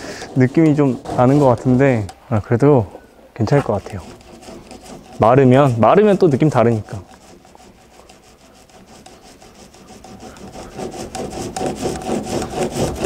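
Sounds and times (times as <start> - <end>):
paint roller rolling: 0.0 - 13.0.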